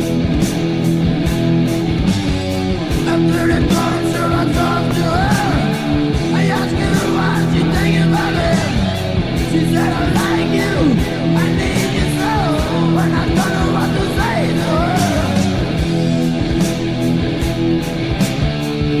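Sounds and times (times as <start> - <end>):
heavy metal music: 0.0 - 19.0.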